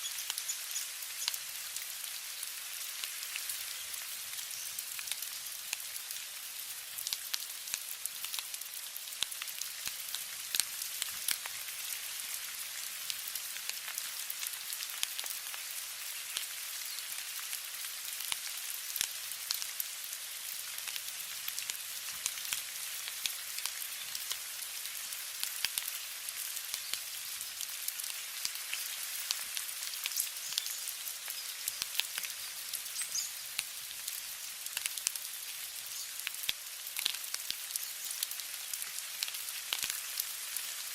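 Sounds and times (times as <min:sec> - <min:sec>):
steady rain hissing: 0:00.0 - 0:40.9.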